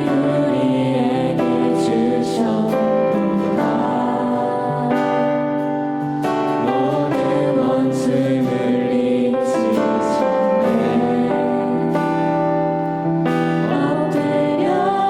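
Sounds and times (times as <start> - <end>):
group of voices singing: 0.0 - 15.0
held instrumental chords: 0.0 - 15.0.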